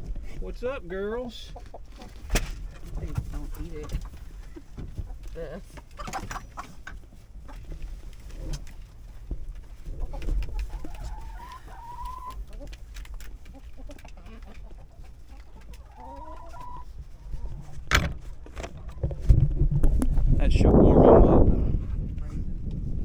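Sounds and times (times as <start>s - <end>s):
chickens calling: 0.0s - 20.2s.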